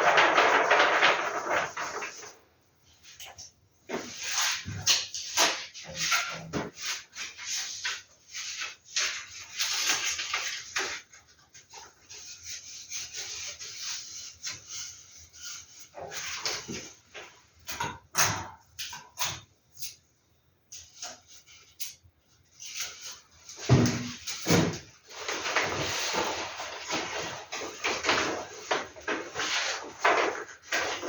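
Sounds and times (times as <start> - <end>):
paper rustling and crinkling: 0.0 - 17.7, 22.5 - 31.0.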